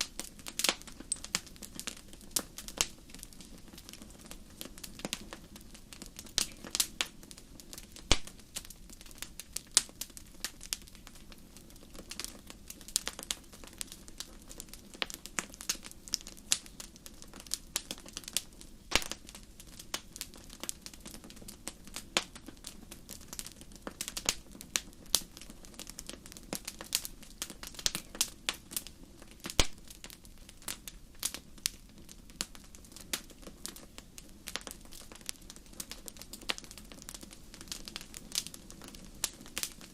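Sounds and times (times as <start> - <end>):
fire popping and snapping: 0.0 - 39.9
flames rumbling: 0.0 - 39.9.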